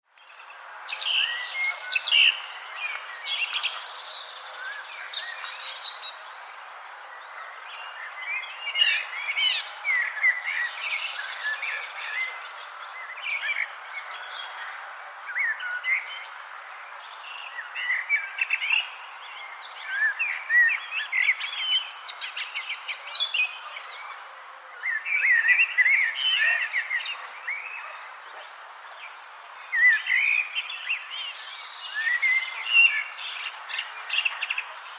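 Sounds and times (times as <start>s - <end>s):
birds chirping and trilling: 0.2s - 34.9s.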